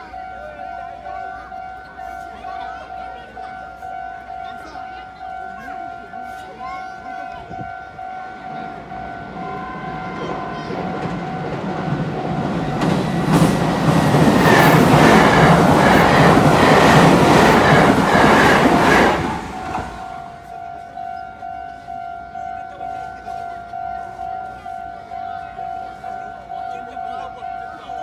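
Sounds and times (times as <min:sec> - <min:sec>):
train rumbling over bridge: 0:00.0 - 0:28.0.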